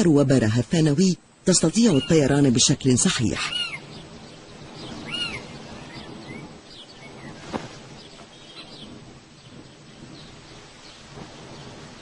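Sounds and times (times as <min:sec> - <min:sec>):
birds chirping: 0:00.0 - 0:12.0
faint outdoor background hiss: 0:00.0 - 0:12.0.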